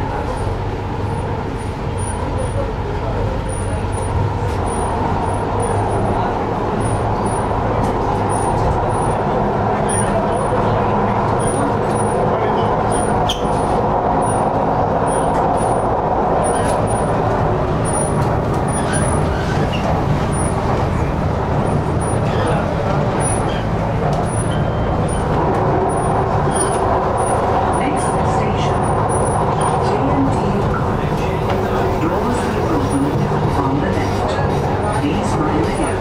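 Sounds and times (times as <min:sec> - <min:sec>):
passengers' voices murmuring: 0:00.0 - 0:36.0
train carriage rumbling and humming: 0:00.0 - 0:36.0.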